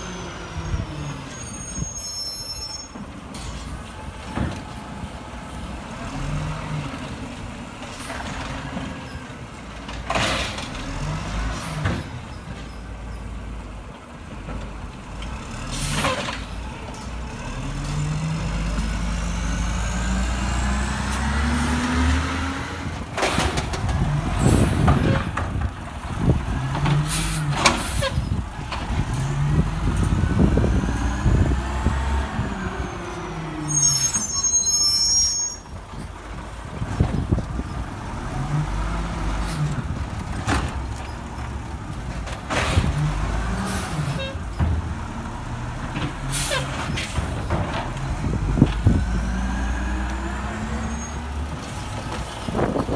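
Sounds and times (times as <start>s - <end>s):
diesel engine revving: 3.7s - 12.3s, 13.5s - 52.9s.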